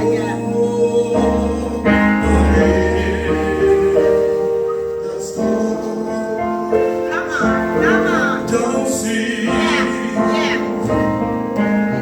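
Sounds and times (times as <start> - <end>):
gospel keyboard chords: 0.0 - 12.0.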